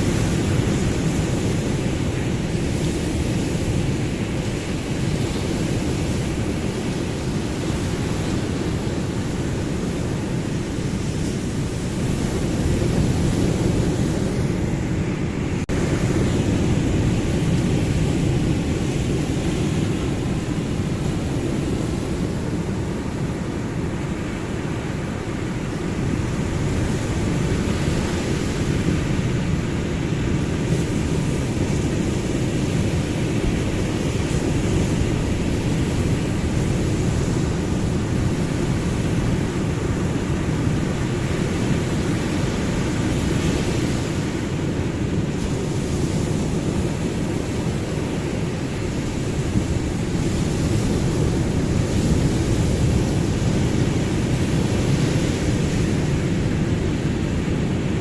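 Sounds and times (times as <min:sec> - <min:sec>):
ocean waves rumbling: 0:00.0 - 0:58.0.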